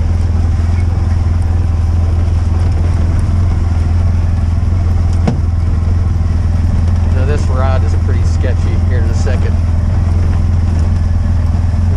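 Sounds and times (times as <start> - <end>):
vehicle engine humming: 0.0 - 11.9.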